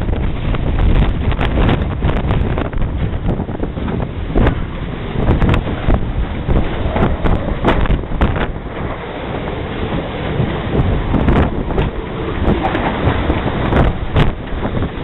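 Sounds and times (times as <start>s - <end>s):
wind gusts buffeting microphone: 0.0s - 15.0s.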